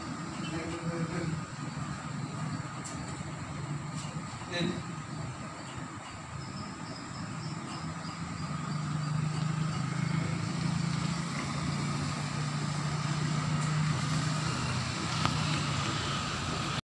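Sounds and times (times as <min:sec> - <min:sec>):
vehicle engine humming: 0:00.0 - 0:16.8.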